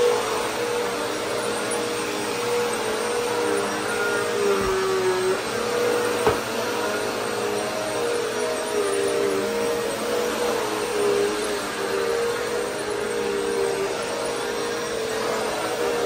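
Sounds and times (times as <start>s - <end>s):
vacuum cleaner on carpet: 0.0s - 16.0s.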